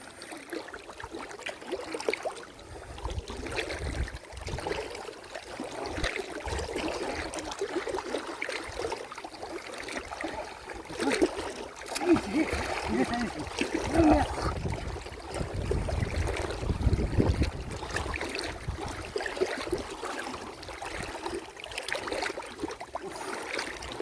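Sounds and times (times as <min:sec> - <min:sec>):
muddy water sloshing: 0:00.0 - 0:24.0.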